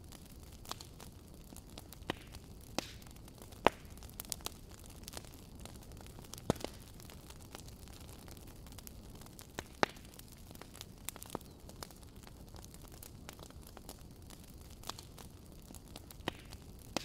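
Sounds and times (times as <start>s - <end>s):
crackles and clicks: 0.0s - 17.0s.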